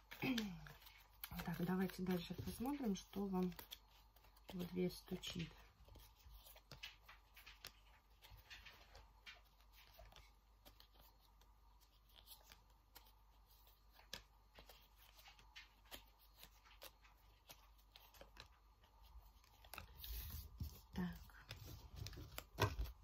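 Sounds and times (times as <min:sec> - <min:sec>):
playing cards being shuffled: 0:00.0 - 0:23.0.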